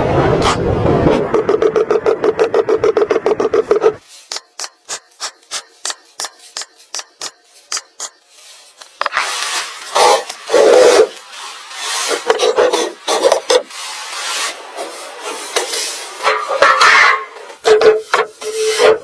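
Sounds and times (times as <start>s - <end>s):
hand tool scraping wood: 1.3s - 19.0s.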